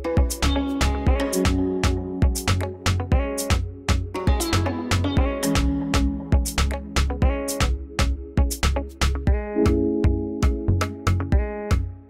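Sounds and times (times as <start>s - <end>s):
afrobeat music: 0.0s - 12.0s.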